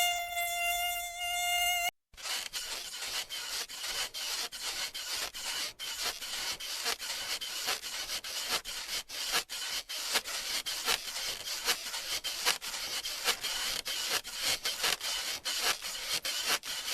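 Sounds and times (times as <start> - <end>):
dry scraping rasp: 0.0 - 16.9.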